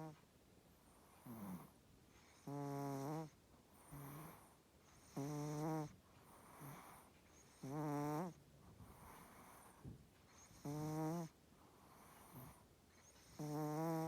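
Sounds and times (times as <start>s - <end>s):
dog snoring: 0.0s - 0.2s, 0.9s - 14.0s
soft breaths: 0.0s - 14.0s.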